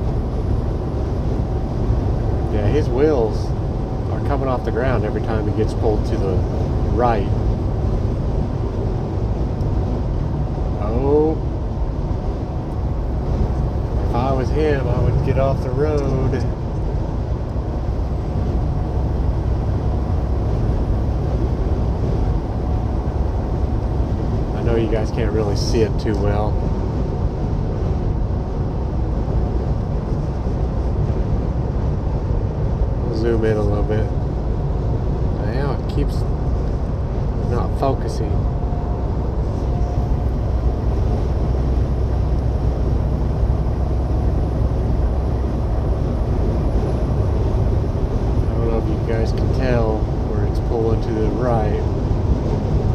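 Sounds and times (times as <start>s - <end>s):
faint steady whine: 0.0s - 52.9s
truck engine and road rumble: 0.0s - 52.9s.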